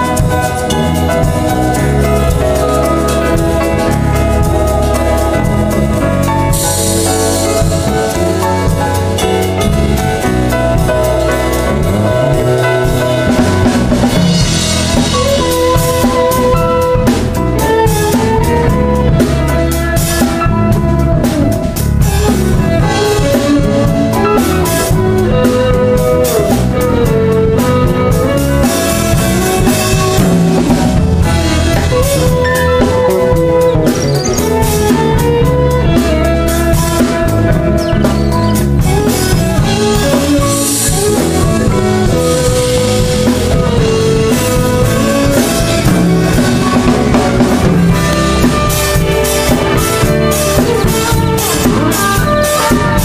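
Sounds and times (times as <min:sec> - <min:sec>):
drum kit: 0:00.0 - 0:53.0
electric guitar: 0:00.0 - 0:53.0
live band playing: 0:00.0 - 0:53.0.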